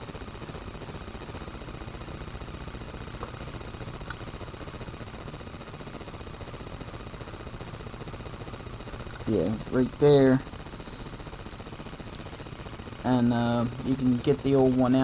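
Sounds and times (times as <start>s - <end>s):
steady low hum with hiss: 0.0s - 15.0s.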